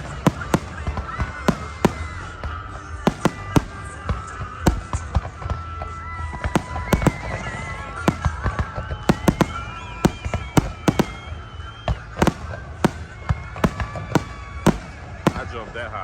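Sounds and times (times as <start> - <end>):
fireworks bangs: 0.0 - 16.0
fireworks whistling: 0.0 - 16.0.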